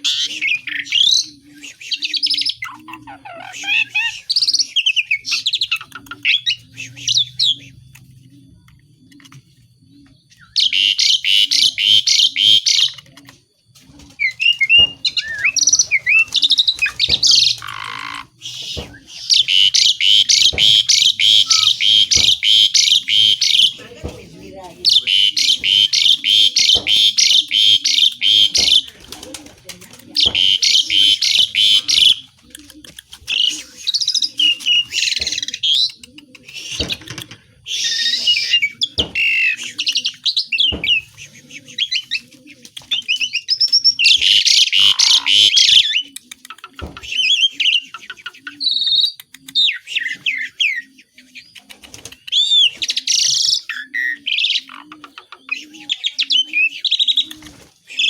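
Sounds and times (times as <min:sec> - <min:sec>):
bird whistles and trills: 0:00.0 - 0:29.4, 0:30.2 - 0:58.0.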